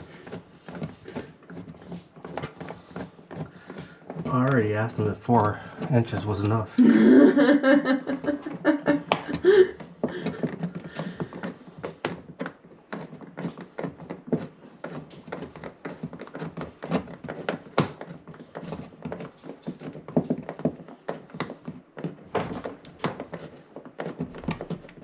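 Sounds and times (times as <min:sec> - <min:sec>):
hands tapping on dryer hose: 0:00.0 - 0:25.0.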